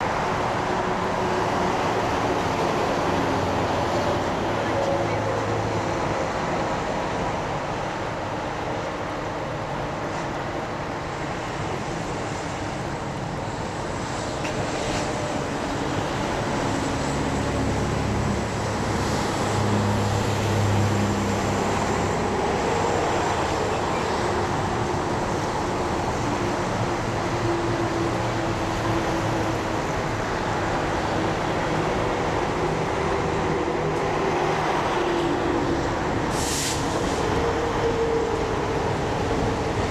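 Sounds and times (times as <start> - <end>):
diesel locomotive engine droning: 0.0 - 39.9.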